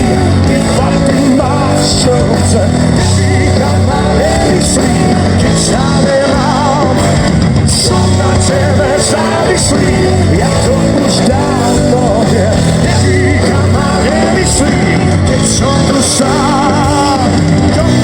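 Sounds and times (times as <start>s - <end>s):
pop-rock band playing live: 0.0s - 18.0s.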